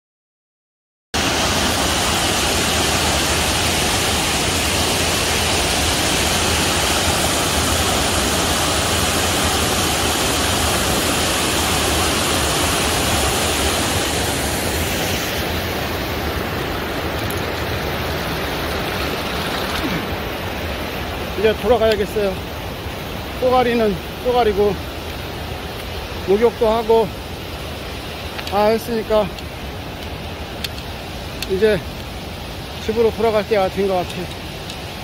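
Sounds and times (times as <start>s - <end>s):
water rushing over weir: 1.2s - 35.0s.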